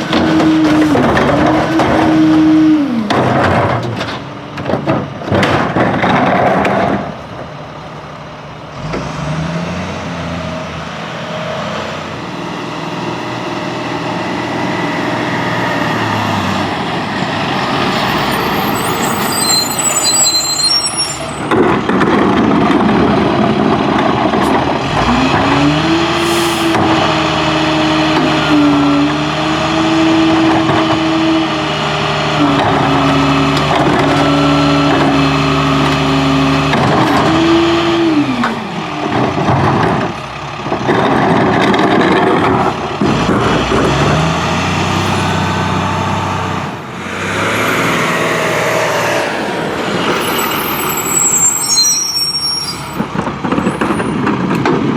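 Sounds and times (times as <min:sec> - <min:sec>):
diesel truck engine revving: 0:00.0 - 0:54.9.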